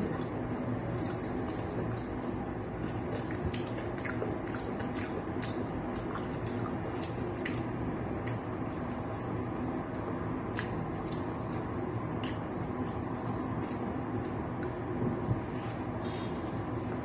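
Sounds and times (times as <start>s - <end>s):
wet chewing and biting: 0.0s - 17.0s.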